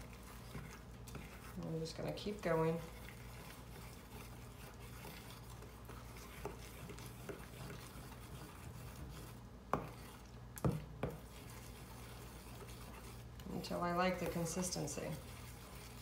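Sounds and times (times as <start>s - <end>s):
spoon scraping paste in bowl: 0.0s - 16.0s.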